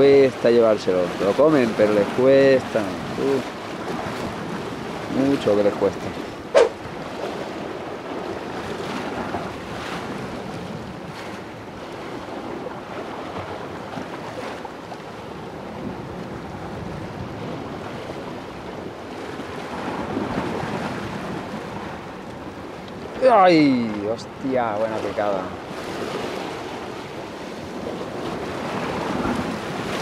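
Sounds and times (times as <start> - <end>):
sea waves washing against rocks: 0.0 - 30.0
wind on the microphone: 0.0 - 30.0.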